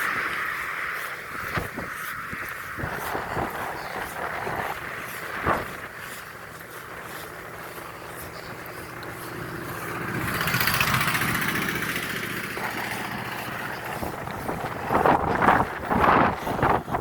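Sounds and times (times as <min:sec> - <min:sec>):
vehicle passing by: 0:00.0 - 0:17.0
wind buffeting microphone: 0:00.0 - 0:17.0.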